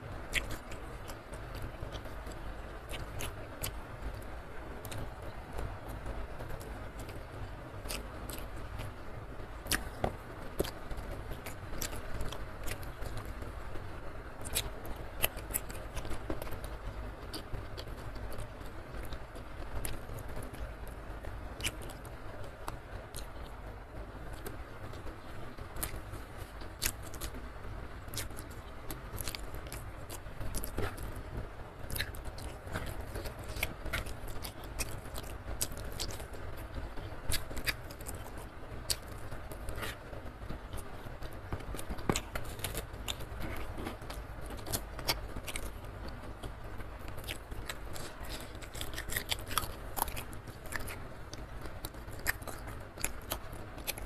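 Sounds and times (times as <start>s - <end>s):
steady low hum: 0.0s - 54.0s
chewing with wet clicks: 0.3s - 5.7s, 6.5s - 9.0s, 9.6s - 13.4s, 14.4s - 23.6s, 24.3s - 27.4s, 28.0s - 31.2s, 31.9s - 54.0s.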